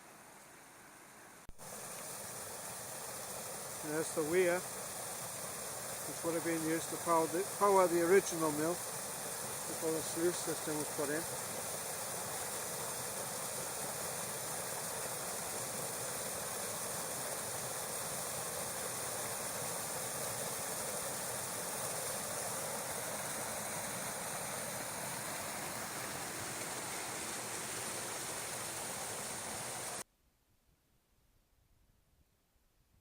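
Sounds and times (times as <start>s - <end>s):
water rushing over weir: 1.5s - 30.0s.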